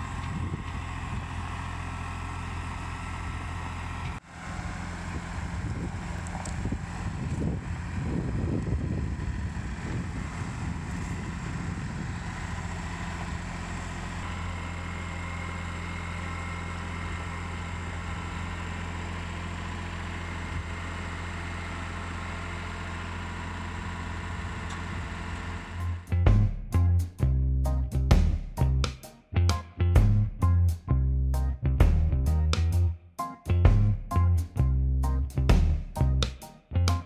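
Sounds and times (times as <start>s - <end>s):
tractor diesel engine humming: 0.0s - 37.0s.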